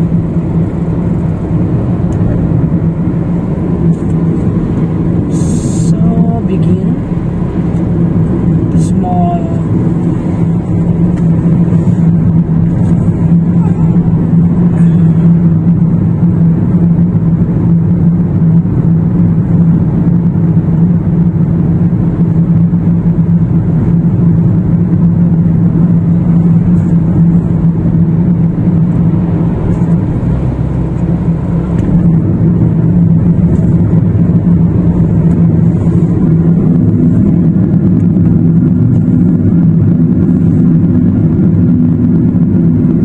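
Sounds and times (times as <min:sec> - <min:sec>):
car engine and tyre drone: 0:00.0 - 0:43.0.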